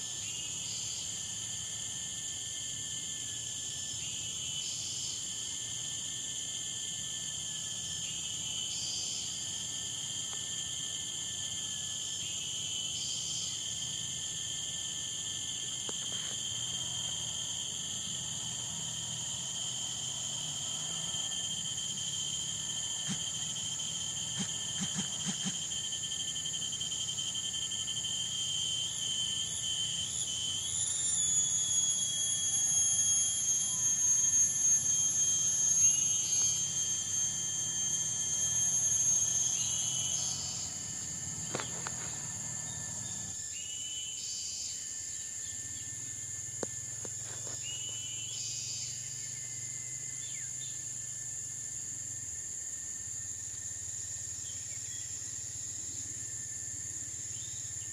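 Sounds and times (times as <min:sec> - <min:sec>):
insects trilling: 0:00.0 - 0:57.9
loud insect buzzing call: 0:00.0 - 0:57.9.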